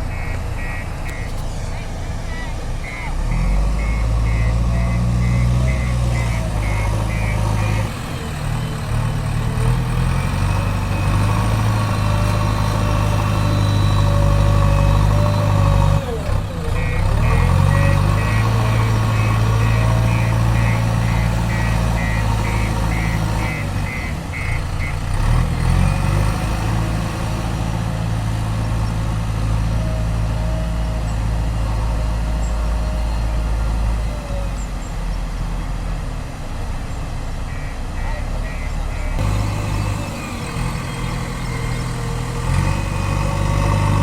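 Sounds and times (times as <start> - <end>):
diesel engine revving: 0.0 - 44.0.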